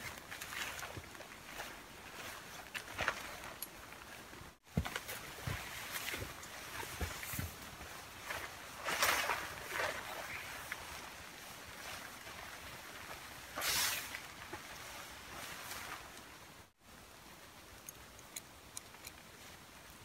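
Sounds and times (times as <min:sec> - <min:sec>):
tent cover rustling: 0:00.0 - 0:16.8.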